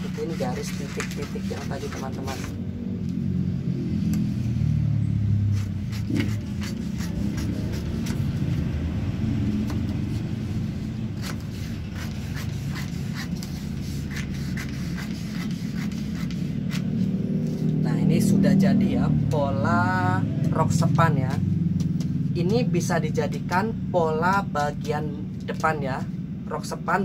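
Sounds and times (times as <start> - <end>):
steady low rumble: 2.1 - 27.0.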